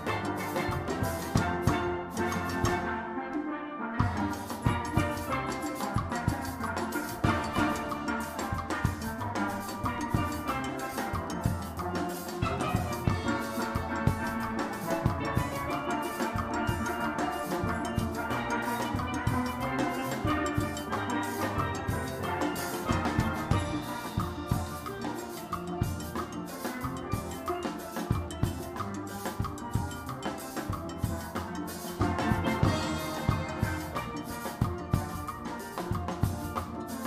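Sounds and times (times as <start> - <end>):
drums keeping a beat: 0.0 - 3.0, 4.0 - 37.0
steelpan music: 0.0 - 37.0.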